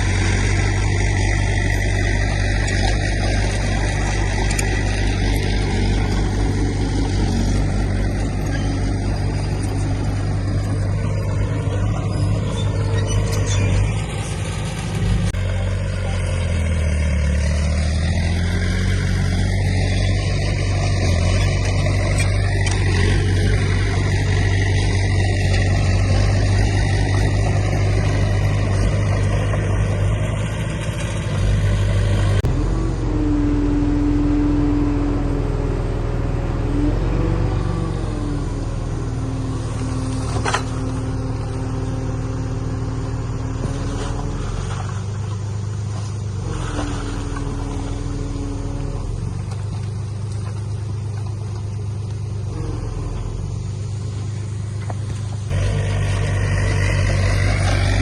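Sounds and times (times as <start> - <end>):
diesel construction machinery running: 0.0 - 58.0.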